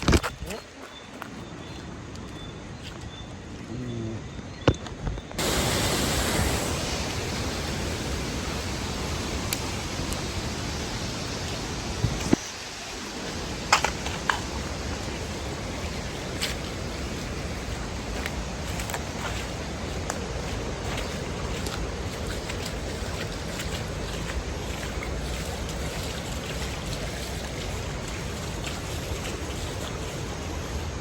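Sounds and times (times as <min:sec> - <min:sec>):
wind and rain rushing: 0:04.7 - 0:31.0.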